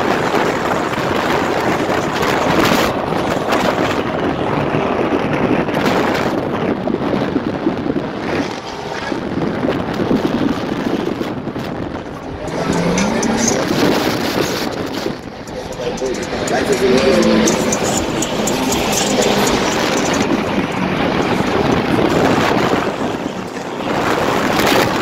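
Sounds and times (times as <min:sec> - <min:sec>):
car engines running hard: 0:00.0 - 0:25.0
wind noise on microphone: 0:00.0 - 0:25.0.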